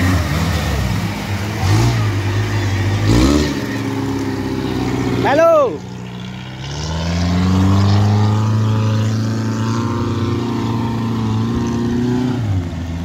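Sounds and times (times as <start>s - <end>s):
off-road vehicle engine under load: 0.0s - 13.0s.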